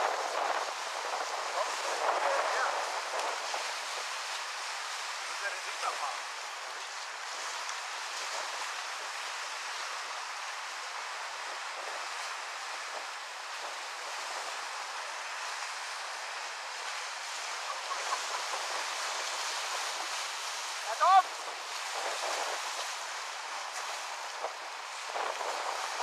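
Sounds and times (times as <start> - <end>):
waves breaking on shore: 0.0 - 26.0.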